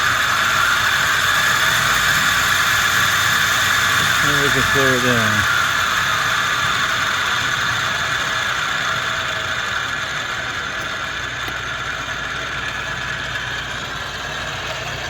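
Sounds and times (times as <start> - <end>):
lathe machine whine: 0.0 - 15.0.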